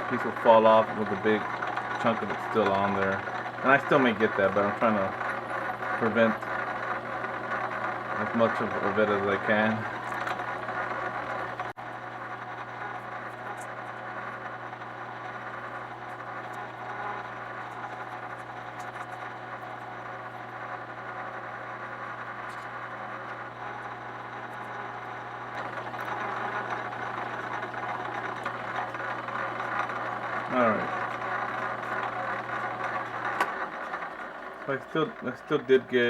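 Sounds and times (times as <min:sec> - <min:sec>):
metal lathe humming: 0:00.0 - 0:36.0.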